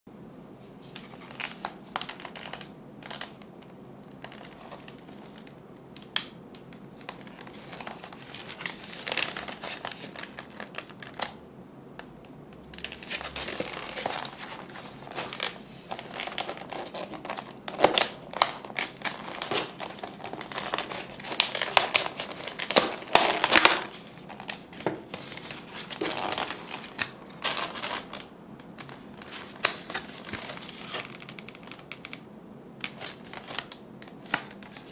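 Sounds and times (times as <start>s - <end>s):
plastic packaging crinkling: 4.1s - 6.4s, 7.0s - 11.4s, 12.7s - 32.2s, 32.8s - 34.9s.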